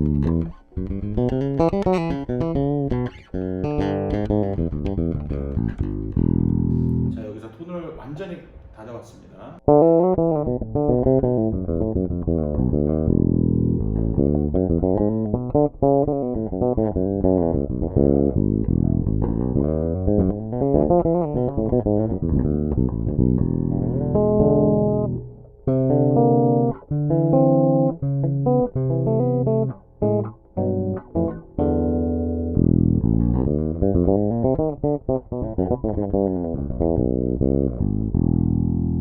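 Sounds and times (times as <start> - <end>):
electric bass notes: 0.0 - 7.3, 9.6 - 39.0.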